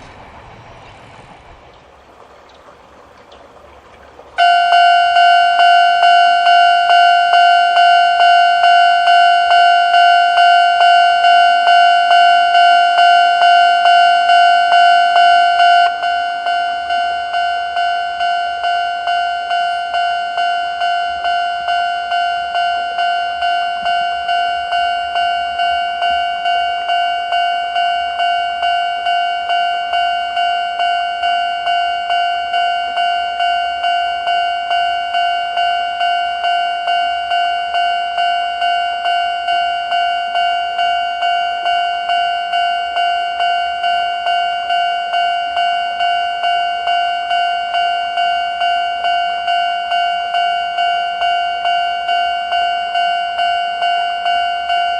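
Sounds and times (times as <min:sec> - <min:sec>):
level-crossing warning alarm: 0:00.0 - 0:54.9.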